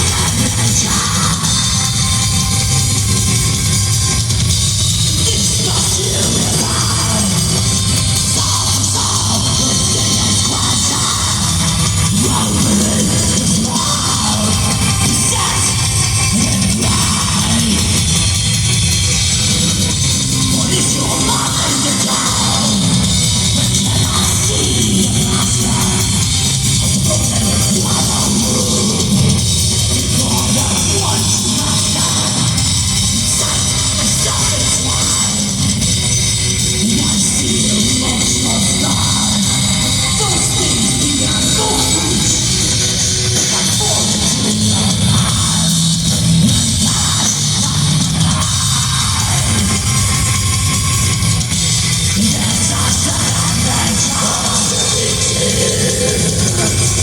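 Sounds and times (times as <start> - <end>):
distorted guitars: 0.0 - 57.0
pounding drum kit: 0.0 - 57.0.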